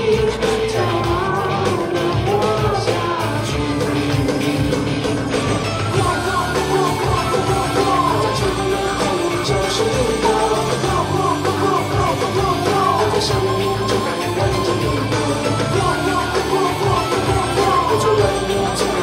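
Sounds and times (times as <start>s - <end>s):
loud rock music with singing: 0.0s - 19.0s.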